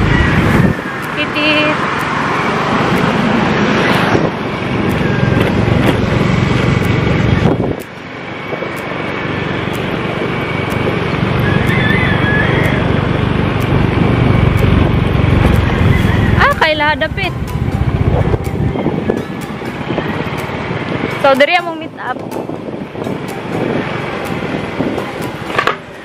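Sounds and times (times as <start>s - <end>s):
scooter engine running: 0.0s - 26.0s
wind rushing over microphone: 0.0s - 26.0s.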